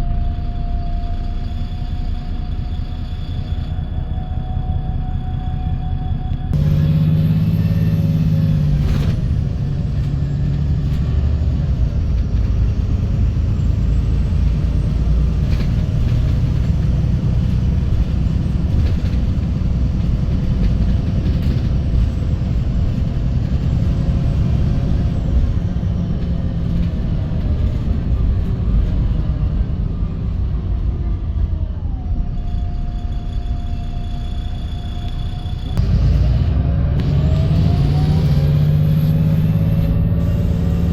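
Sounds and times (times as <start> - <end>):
bus engine rumbling: 0.0 - 40.9
steady high whine: 0.0 - 40.9.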